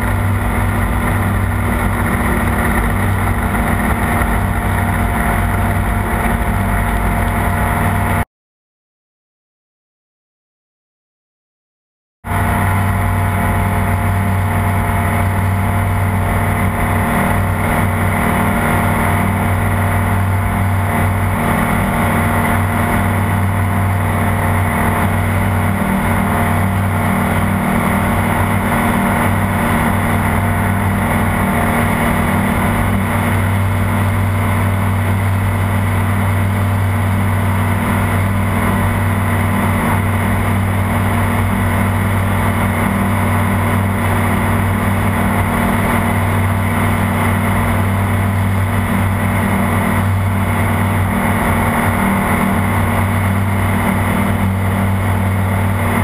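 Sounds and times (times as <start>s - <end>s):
light aircraft engine drone: 0.0s - 8.2s, 12.3s - 56.0s.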